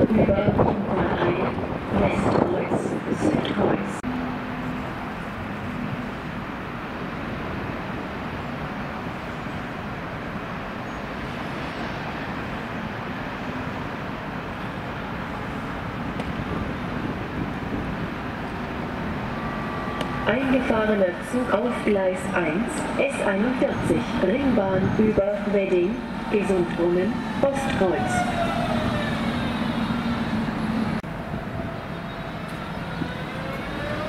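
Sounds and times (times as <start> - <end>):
city noise: 0.0 - 34.0
train wheels rumbling on rails: 0.0 - 34.0.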